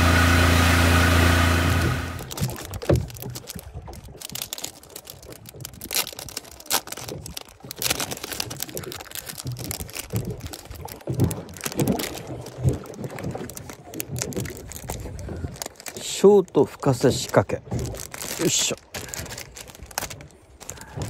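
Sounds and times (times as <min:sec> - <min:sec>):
fishing gear clicks and knocks: 0:02.2 - 0:21.0.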